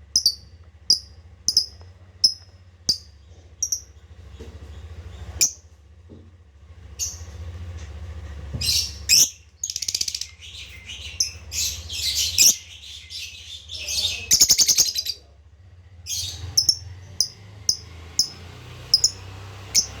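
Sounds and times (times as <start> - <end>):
lovebird chirping and trilling: 0.1 - 5.6, 6.9 - 7.4, 8.6 - 15.2, 16.0 - 20.0.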